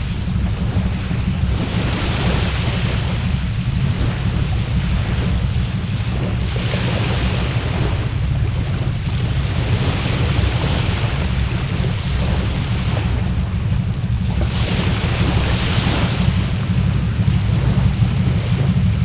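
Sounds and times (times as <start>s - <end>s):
constant high whine: 0.0s - 19.0s
wind rumble on microphone: 0.0s - 19.0s.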